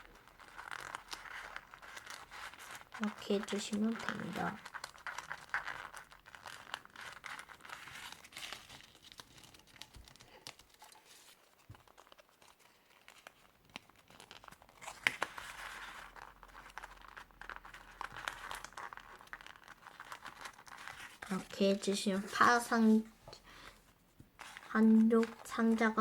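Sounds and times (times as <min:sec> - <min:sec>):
paper rustling and crinkling: 0:00.0 - 0:26.0.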